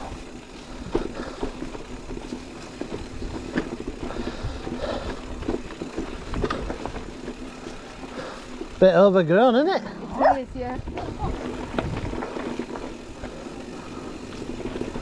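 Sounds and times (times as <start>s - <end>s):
bike rattling over bumps: 0.0s - 15.0s
electric bike motor hum: 0.0s - 15.0s.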